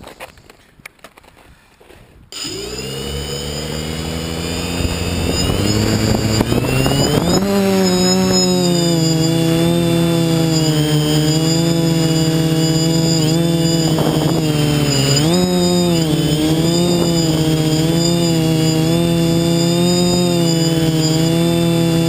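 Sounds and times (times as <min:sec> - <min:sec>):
drone propellers whining: 0:02.4 - 0:22.0.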